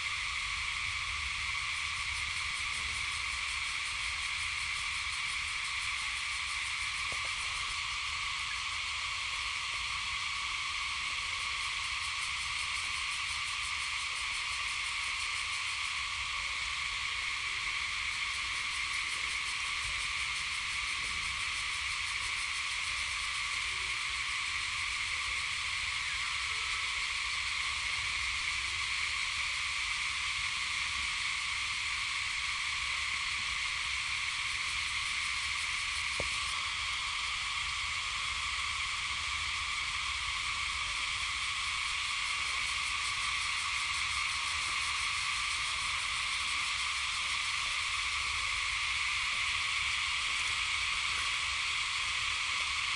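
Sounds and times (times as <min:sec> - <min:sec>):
insect chorus buzzing: 0:00.0 - 0:52.9.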